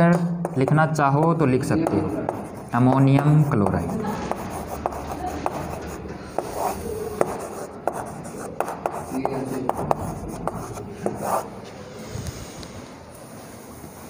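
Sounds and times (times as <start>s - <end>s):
chalk writing on blackboard: 0.1s - 14.0s.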